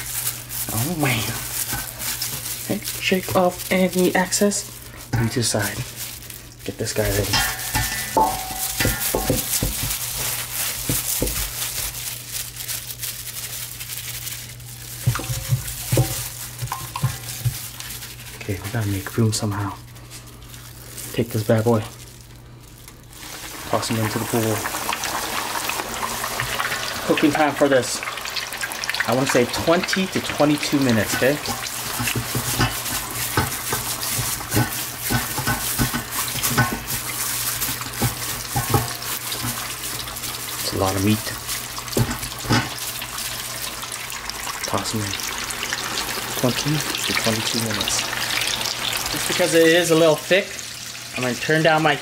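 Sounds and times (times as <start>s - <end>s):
deep-frying hiss with crackles: 0.0s - 52.0s
flour rustling on meat: 0.0s - 52.0s.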